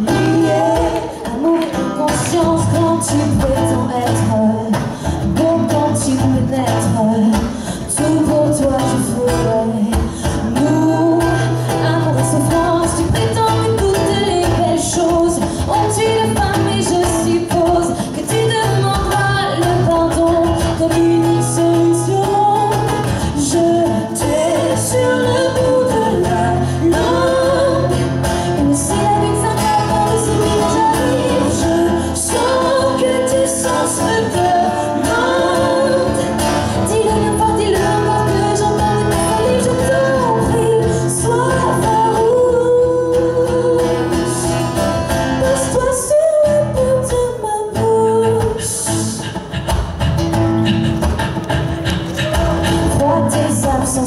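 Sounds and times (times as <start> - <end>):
woman singing into microphone: 0.0 - 44.8, 45.4 - 50.0, 51.9 - 54.0
strummed acoustic guitar: 0.0 - 54.0.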